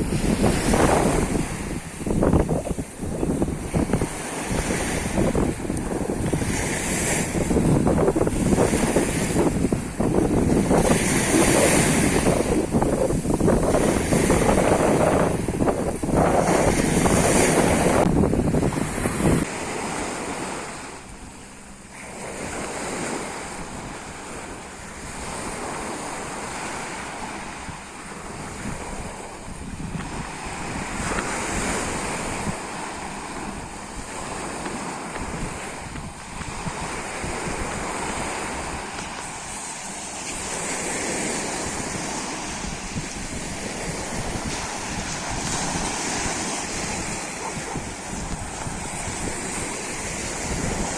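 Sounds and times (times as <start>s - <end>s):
waves washing onto beach: 0.0s - 50.9s
wind buffeting microphone: 0.0s - 50.9s.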